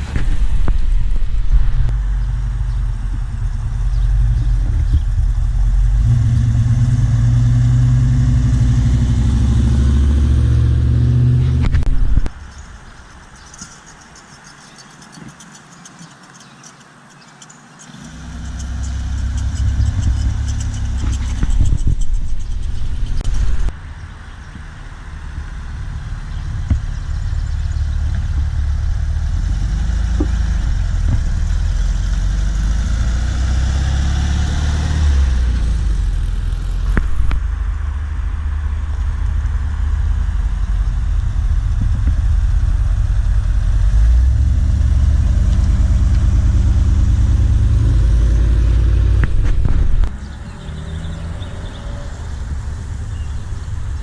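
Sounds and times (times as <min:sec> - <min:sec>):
car engines exhaust rumble: 0:00.0 - 0:54.0.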